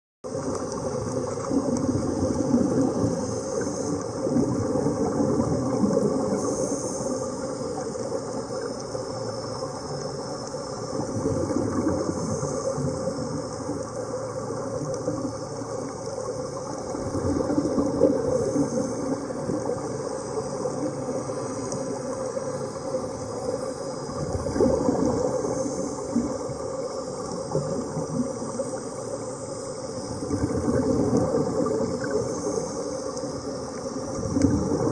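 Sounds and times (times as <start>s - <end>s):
underwater air bubbling: 0.2s - 34.9s.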